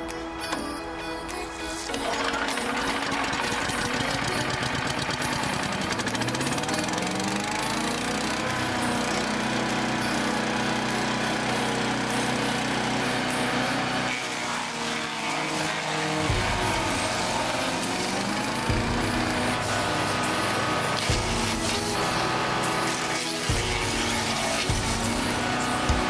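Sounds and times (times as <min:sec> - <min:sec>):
wood chipper engine running: 0:01.6 - 0:26.0.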